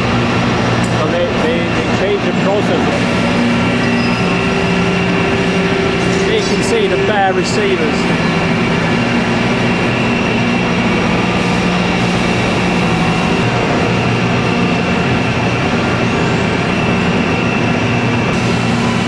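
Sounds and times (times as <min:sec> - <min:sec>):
factory machinery hum: 0:00.0 - 0:19.0
faint high machine whine: 0:00.0 - 0:19.0.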